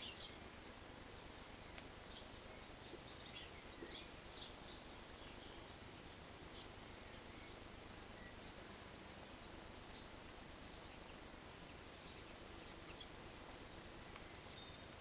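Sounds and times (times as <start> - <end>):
faint bird chirps: 0.0 - 0.7, 1.5 - 15.0
steady background hiss: 0.0 - 15.0.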